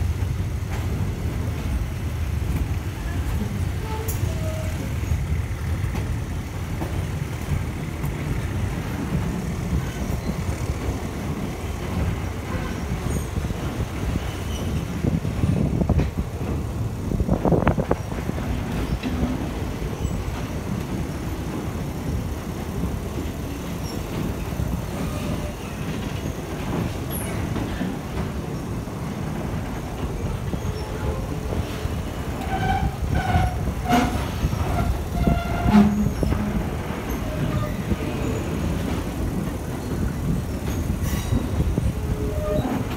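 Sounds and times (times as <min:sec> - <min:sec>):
train wheels rumbling and rattling: 0:00.0 - 0:42.9.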